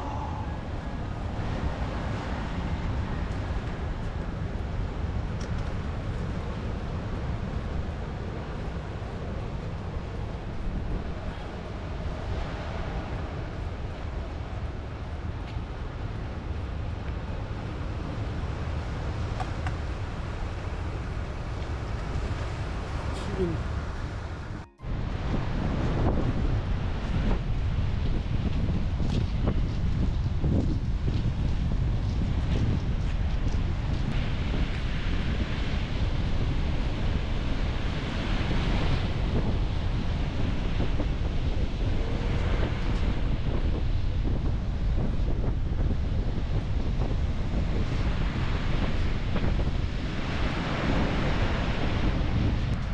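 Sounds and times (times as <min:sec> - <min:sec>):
surf rushing: 0:00.0 - 0:29.7, 0:32.4 - 0:52.9
sea waves washing onto beach: 0:00.0 - 0:52.9
wind on microphone: 0:00.0 - 0:52.9.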